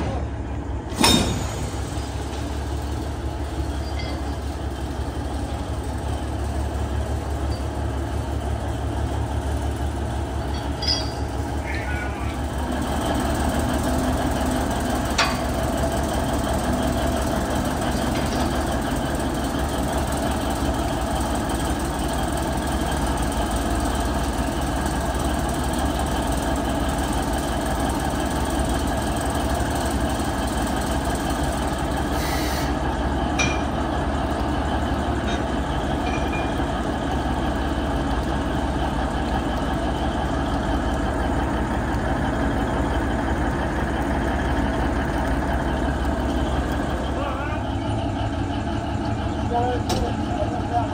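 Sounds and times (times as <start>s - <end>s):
diesel locomotive idling: 0.0s - 50.9s.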